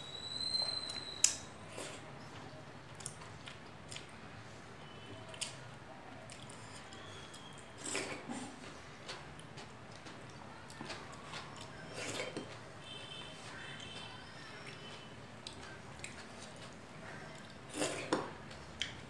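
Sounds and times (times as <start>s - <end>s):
chewing: 1.7s - 4.2s, 5.1s - 12.6s, 13.4s - 19.0s.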